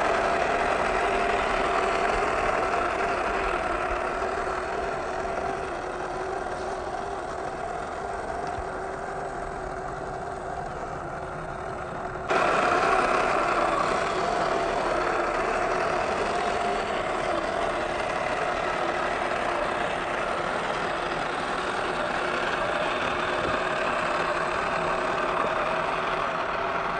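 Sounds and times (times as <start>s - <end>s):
electric motor whining: 0.0s - 26.9s.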